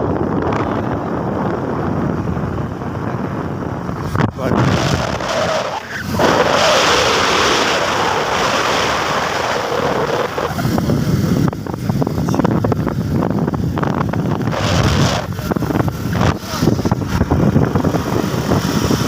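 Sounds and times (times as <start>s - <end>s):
low rumble with crackling buffets: 0.0s - 19.0s
road noise from moving vehicle: 0.0s - 19.0s
wind rushing over microphone: 0.0s - 19.0s.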